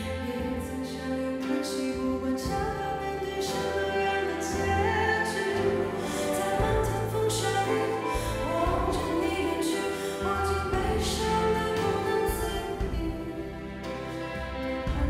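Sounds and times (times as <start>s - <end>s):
woman singing into microphone: 0.0s - 14.1s.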